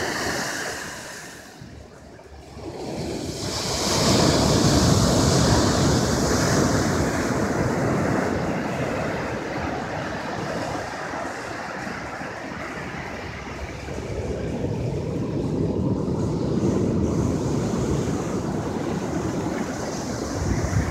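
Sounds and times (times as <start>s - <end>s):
ocean wave breaking: 0.0s - 1.7s, 2.4s - 20.9s
foam washing up the beach: 0.0s - 20.9s.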